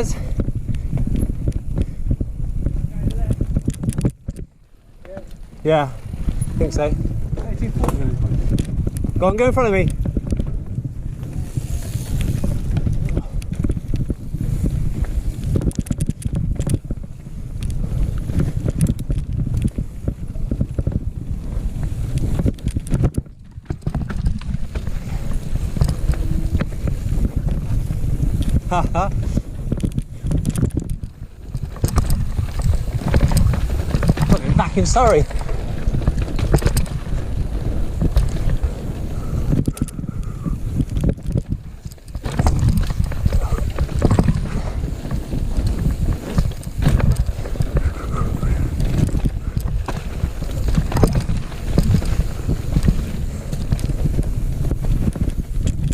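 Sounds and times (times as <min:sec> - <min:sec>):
bike rattling: 0:00.0 - 0:55.9
bike tyres rumbling over dirt: 0:00.0 - 0:55.9
wind buffeting microphone: 0:00.0 - 0:55.9.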